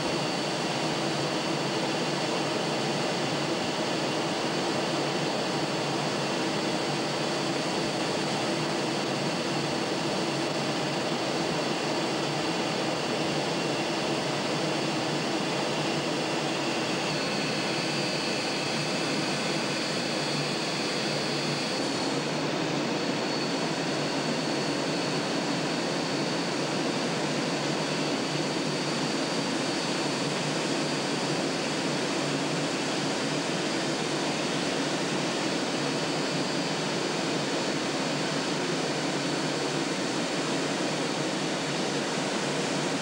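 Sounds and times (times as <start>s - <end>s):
jet engine and airflow noise: 0.0s - 43.0s.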